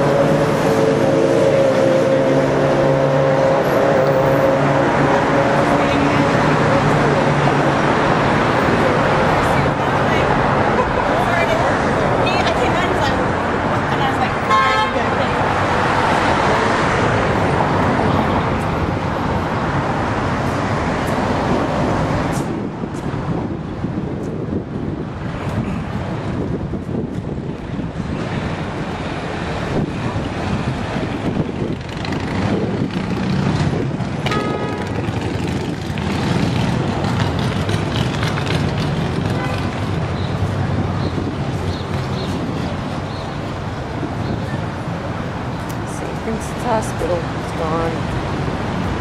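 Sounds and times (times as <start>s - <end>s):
street traffic passing: 0.0s - 49.0s.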